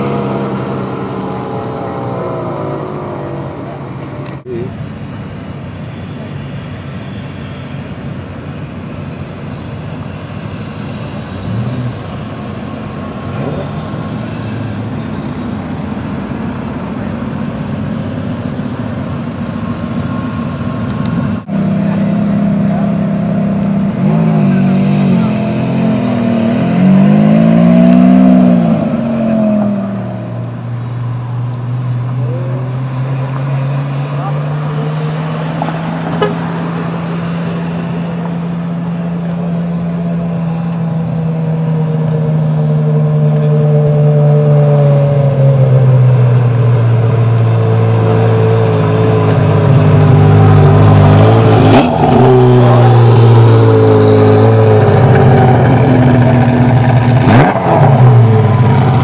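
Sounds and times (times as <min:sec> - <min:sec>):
car engine revving: 0:00.0 - 0:59.0
sports car engines at low revs: 0:00.0 - 0:59.0.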